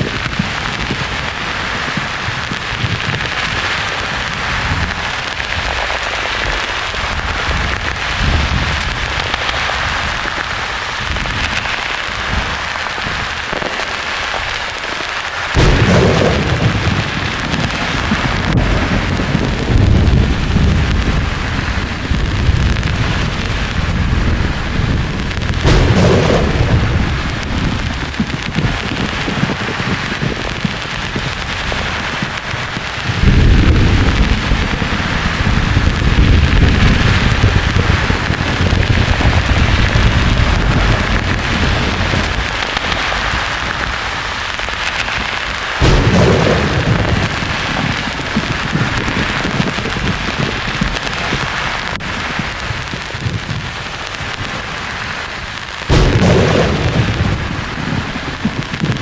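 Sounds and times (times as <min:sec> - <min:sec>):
thunder rumbling: 0:00.0 - 0:13.7, 0:15.5 - 0:55.2, 0:55.8 - 0:59.0
steady rain-like hiss: 0:00.0 - 0:59.0.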